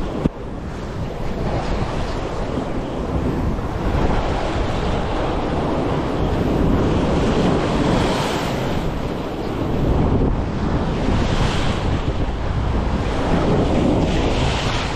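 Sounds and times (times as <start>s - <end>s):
sea waves washing against rocks: 0.0s - 14.9s
wind buffeting microphone: 0.0s - 14.9s.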